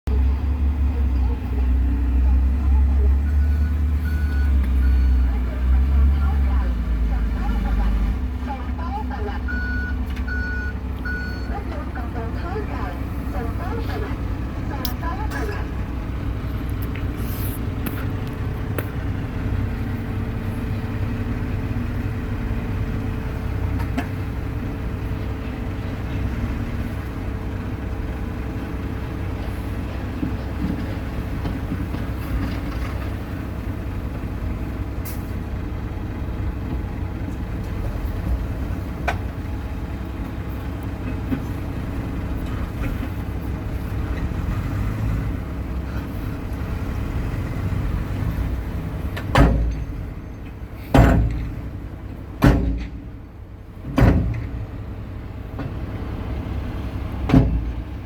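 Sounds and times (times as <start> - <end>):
vehicle engine running: 0.1 - 58.0.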